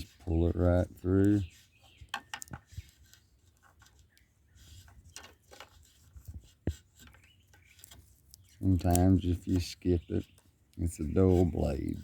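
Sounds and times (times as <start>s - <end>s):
wire insulation scraping: 0.0s - 12.0s.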